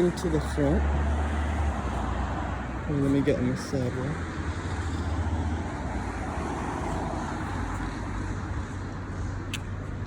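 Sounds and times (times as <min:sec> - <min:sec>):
car passing: 0:00.0 - 0:10.0
traffic rumble: 0:00.0 - 0:10.0.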